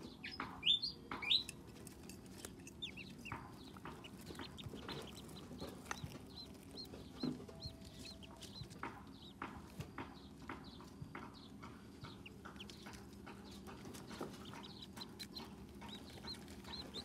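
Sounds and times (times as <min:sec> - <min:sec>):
ducklings peeping: 0:00.0 - 0:17.0.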